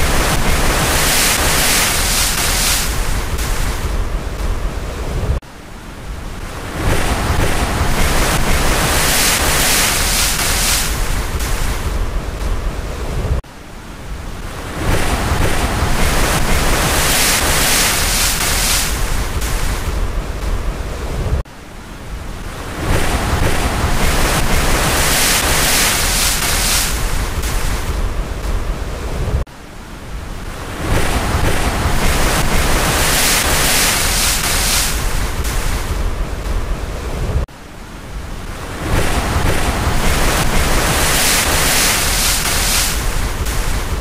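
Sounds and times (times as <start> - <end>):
ocean waves rushing: 0.0 - 44.0.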